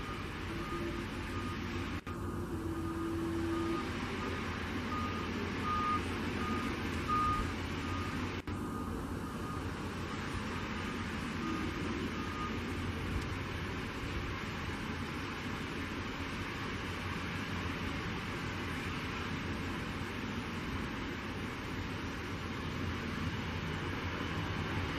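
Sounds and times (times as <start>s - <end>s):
vehicle reversing alarm beeping: 0.0s - 22.4s.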